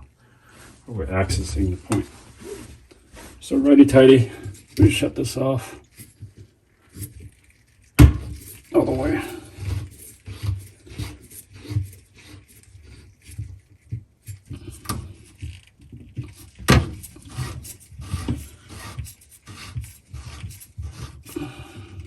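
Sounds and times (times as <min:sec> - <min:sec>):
hands rubbing and scraping: 0:00.4 - 0:22.0.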